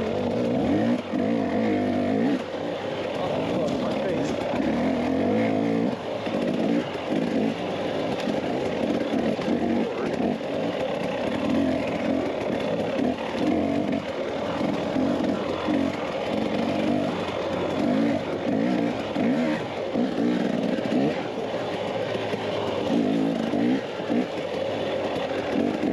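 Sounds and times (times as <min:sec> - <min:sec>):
dirt bike engine running: 0:00.0 - 0:25.9.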